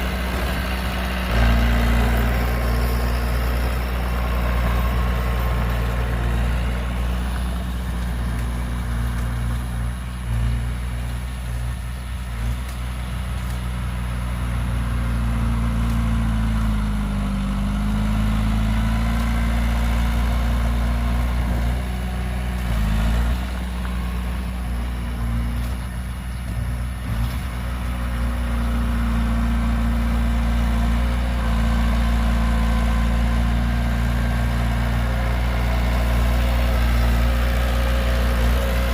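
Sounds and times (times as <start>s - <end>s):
heavy diesel engine idling: 0.0s - 38.9s.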